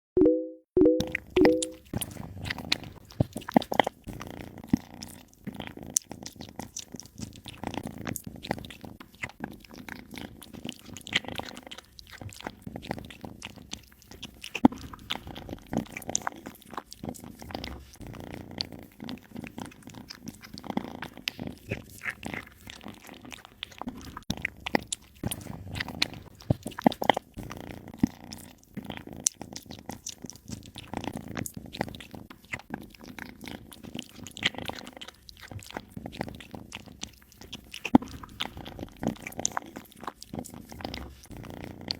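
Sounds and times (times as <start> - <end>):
cat crunching and chewing: 1.1 - 41.9.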